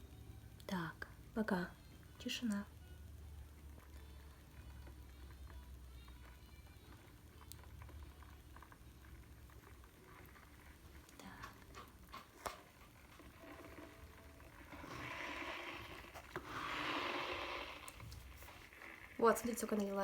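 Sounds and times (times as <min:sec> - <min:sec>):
water pouring into kettle: 0:03.8 - 0:20.0.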